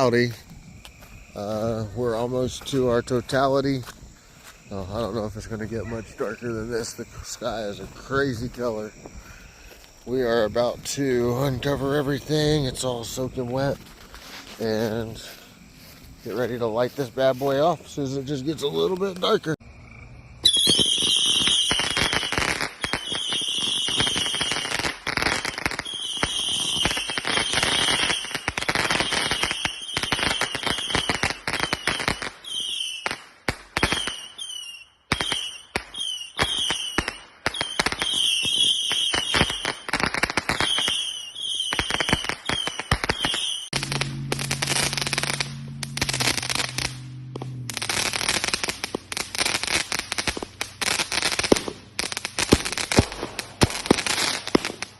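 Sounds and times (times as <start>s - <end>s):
fireworks bangs and crackling: 0.0s - 19.6s, 20.4s - 54.9s.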